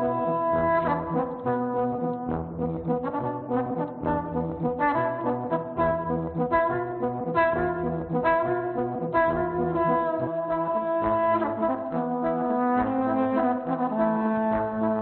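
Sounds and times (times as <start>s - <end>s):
looped trombone notes: 0.0s - 15.0s.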